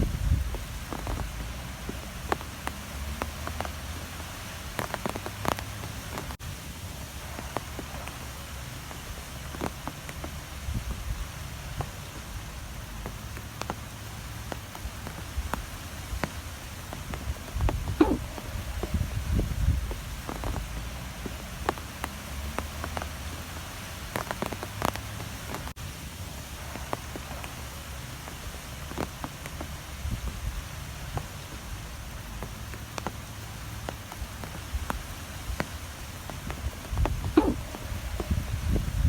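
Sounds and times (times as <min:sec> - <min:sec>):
strong wind rumble and hiss: 0:00.0 - 0:39.0.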